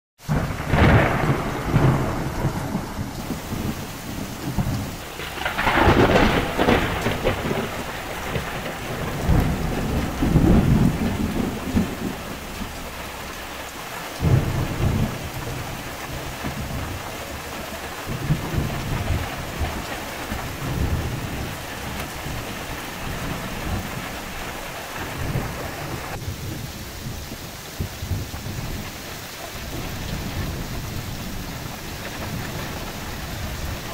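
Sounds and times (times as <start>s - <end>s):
heavy rain: 0.2s - 33.9s
sharp thunderclap: 0.2s - 33.9s
thunder rumbling: 0.2s - 33.9s.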